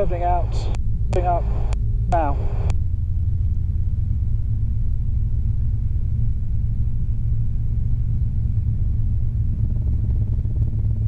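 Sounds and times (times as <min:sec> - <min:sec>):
helicopter engine and rotors rumbling: 0:00.0 - 0:11.0.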